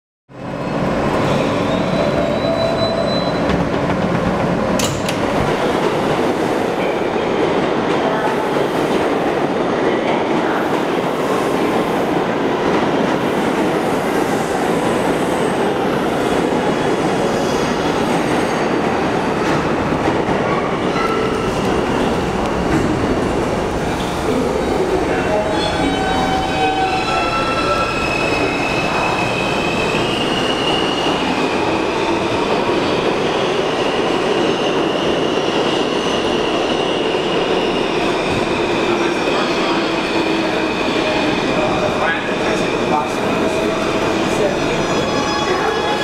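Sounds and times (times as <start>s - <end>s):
subway train rumbling: 0.3s - 46.0s.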